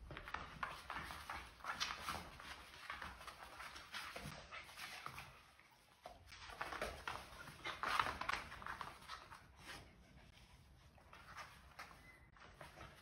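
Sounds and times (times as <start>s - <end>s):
dogs play-wrestling noises: 0.0s - 13.0s.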